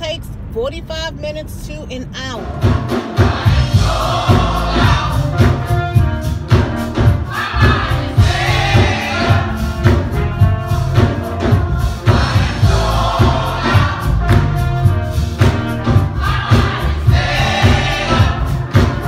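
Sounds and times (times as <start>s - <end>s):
accompaniment with heavy bass beat: 2.1s - 19.0s
gospel choir singing: 2.5s - 6.0s, 7.0s - 19.0s.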